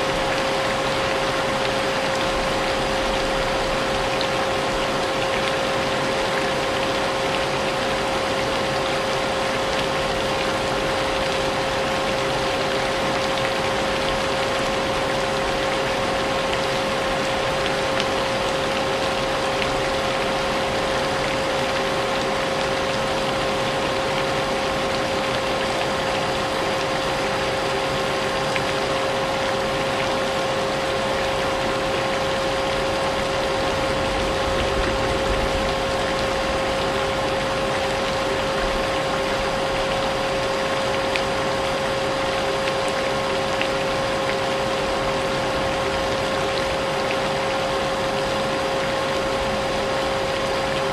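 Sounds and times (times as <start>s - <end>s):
rain hiss: 0.0s - 50.9s.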